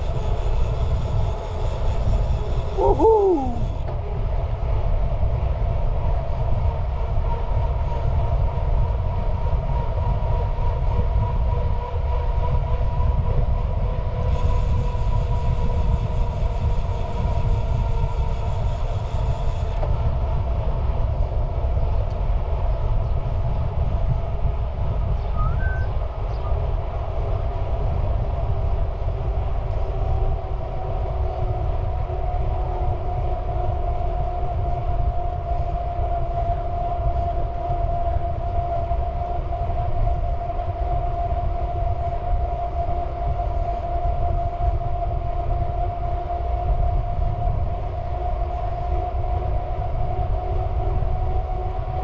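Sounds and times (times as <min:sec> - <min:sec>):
vehicle low rumble: 0:00.0 - 0:52.0.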